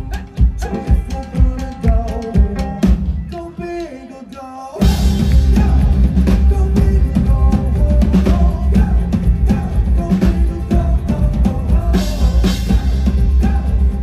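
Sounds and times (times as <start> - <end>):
pop-rock music: 0.0 - 14.0.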